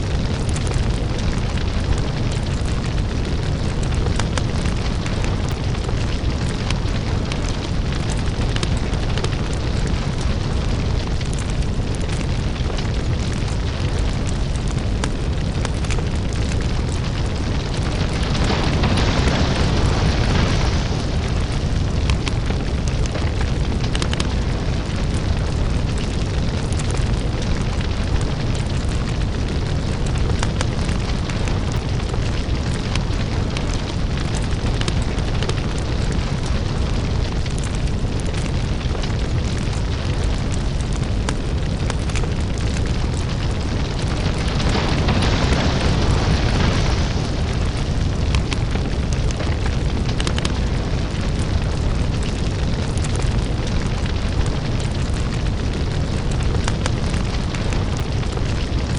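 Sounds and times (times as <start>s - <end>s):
deep rumble: 0.0s - 58.9s
lava crackles and pops: 0.0s - 58.9s.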